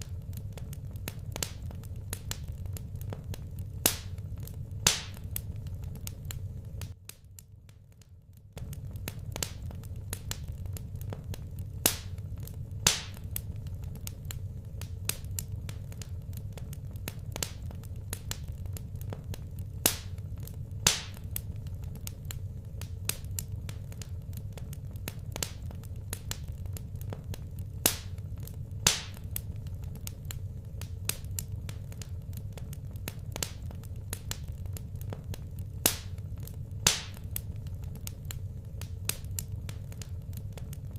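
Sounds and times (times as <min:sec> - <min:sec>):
fire popping and crackling: 0:00.0 - 0:40.9
low rumble of flames: 0:00.0 - 0:40.9.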